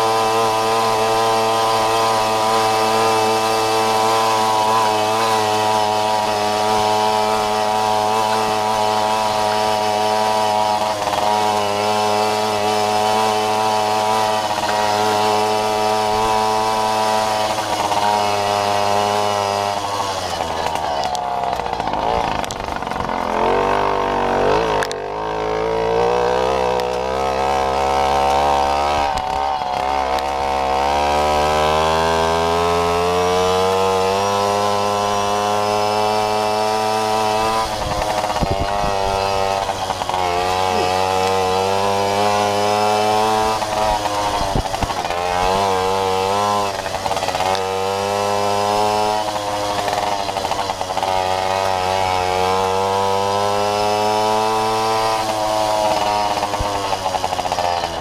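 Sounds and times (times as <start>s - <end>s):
moped engine revving: 0.0s - 58.0s.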